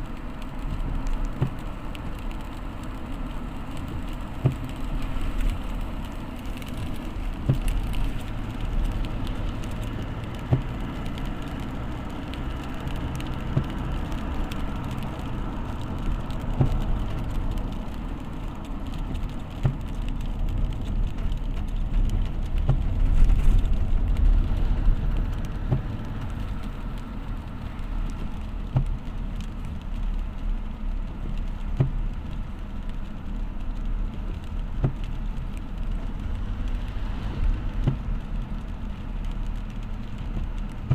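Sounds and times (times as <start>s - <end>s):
rain noise: 0.0s - 40.9s
ticks of raindrops: 0.0s - 40.9s
vehicle engine and road rumble: 0.0s - 40.9s.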